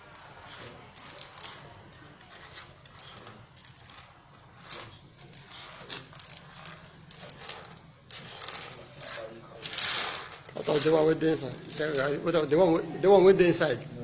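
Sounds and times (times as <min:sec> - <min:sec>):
bags rustling and objects clinking: 0:00.0 - 0:13.0.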